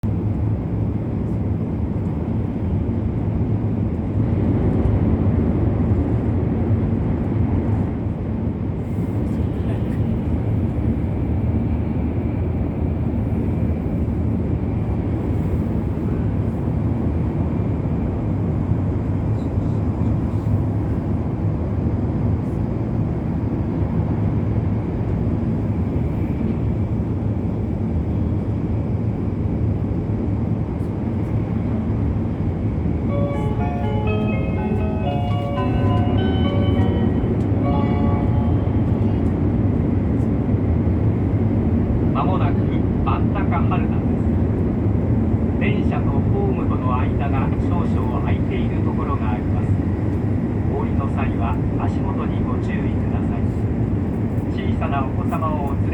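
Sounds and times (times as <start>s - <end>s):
train rumbling inside cabin: 0.0s - 55.9s.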